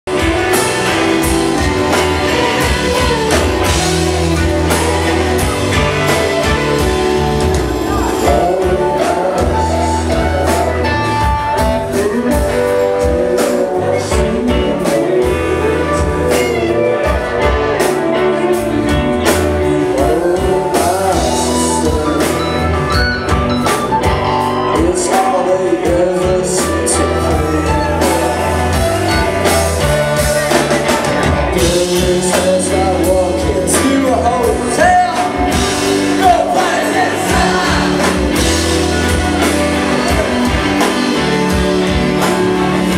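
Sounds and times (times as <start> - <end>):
rock band playing: 0.0 - 42.9
singer singing: 0.1 - 42.9.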